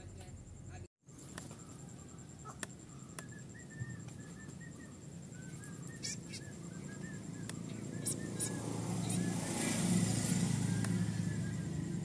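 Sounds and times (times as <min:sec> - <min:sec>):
bird chirping high notes: 0:02.0 - 0:12.0.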